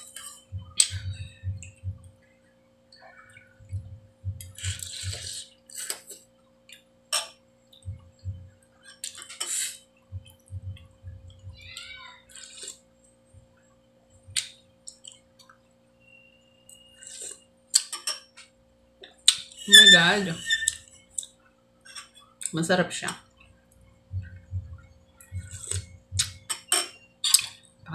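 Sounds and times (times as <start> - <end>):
soft chewing: 0.0 - 15.8, 16.7 - 19.6, 20.7 - 26.5.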